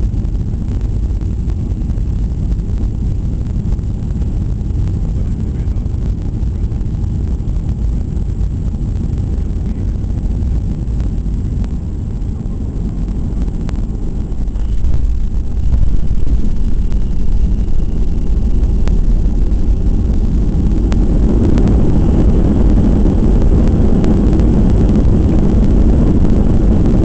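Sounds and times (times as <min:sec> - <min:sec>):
airplane engines and airflow in cabin: 0:00.0 - 0:27.0.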